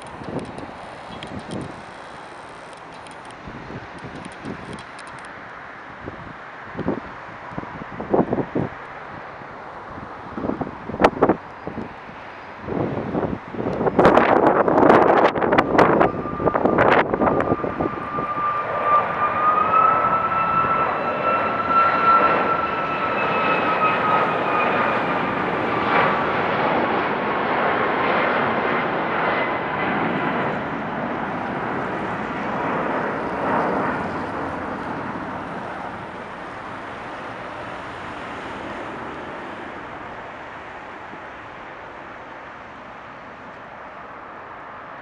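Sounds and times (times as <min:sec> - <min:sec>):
jet engine rumble with fan whine: 0:00.0 - 0:45.0.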